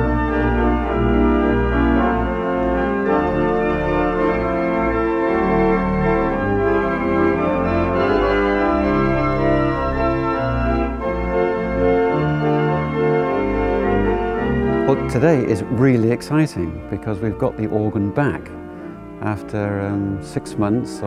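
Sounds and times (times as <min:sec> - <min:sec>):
pipe organ chords: 0:00.0 - 0:21.0.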